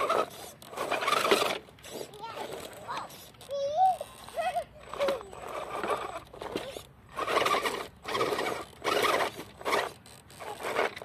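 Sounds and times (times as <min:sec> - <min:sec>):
electric motor whirring: 0:00.0 - 0:11.0.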